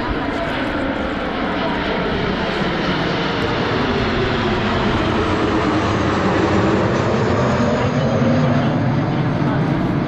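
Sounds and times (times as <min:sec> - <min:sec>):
jets flying past: 0:00.0 - 0:10.0.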